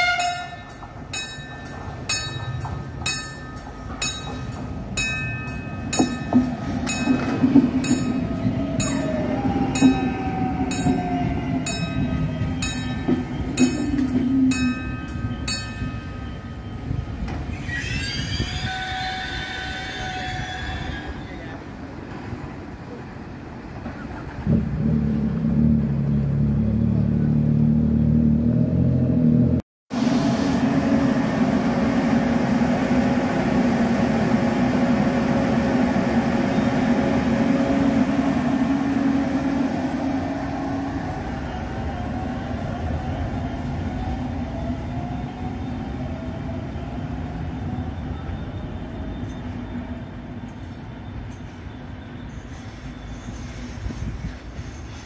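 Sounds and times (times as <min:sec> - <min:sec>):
low train rumble: 0:00.0 - 0:55.0.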